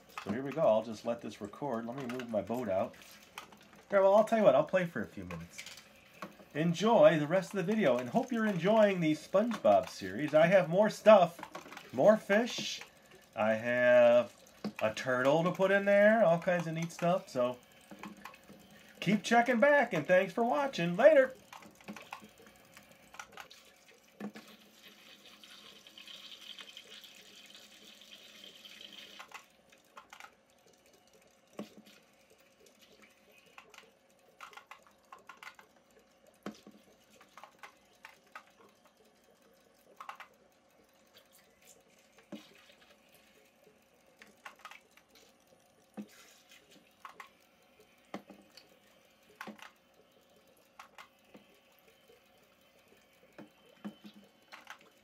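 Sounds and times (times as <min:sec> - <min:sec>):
small water drips and plops: 0:00.0 - 0:55.0.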